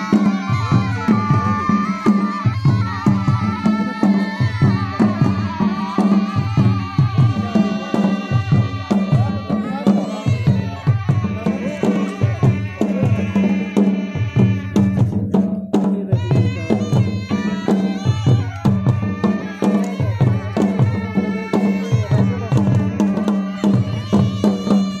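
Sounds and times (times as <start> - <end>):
steady drumbeat: 0.0 - 25.0.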